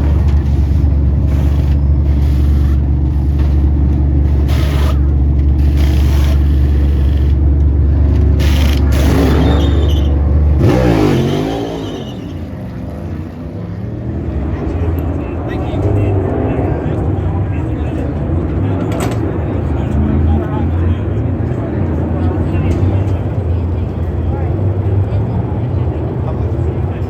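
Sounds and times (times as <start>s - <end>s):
cars passing by: 0.0s - 27.0s
race car engines droning: 0.0s - 27.0s.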